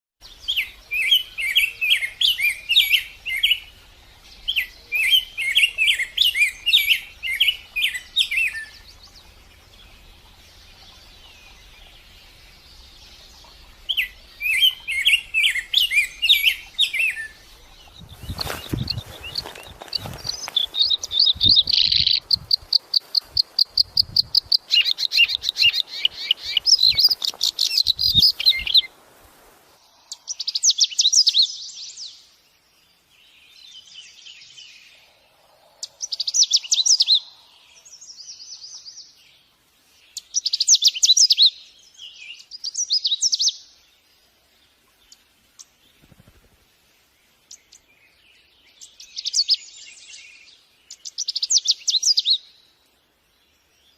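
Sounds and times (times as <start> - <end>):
birds chirping: 0.2 - 29.0, 29.7 - 53.9.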